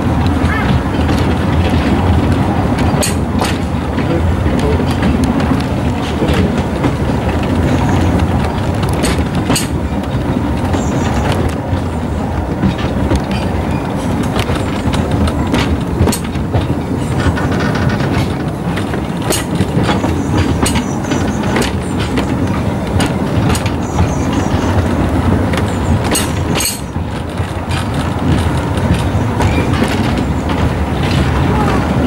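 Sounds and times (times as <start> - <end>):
train rumble: 0.0 - 32.0
wheels clicking over rail joints: 0.0 - 32.0.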